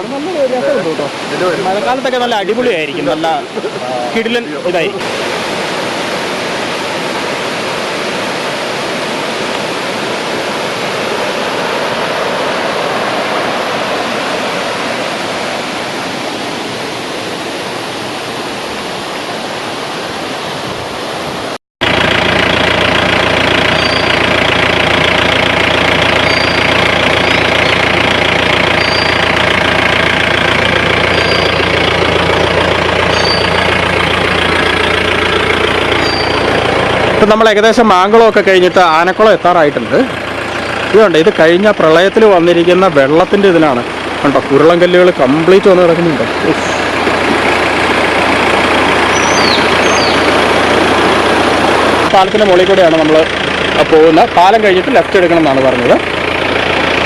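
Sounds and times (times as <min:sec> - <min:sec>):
vehicle engine droning: 0:00.0 - 0:19.1, 0:21.8 - 0:57.0
waterfall rushing: 0:00.0 - 0:57.0.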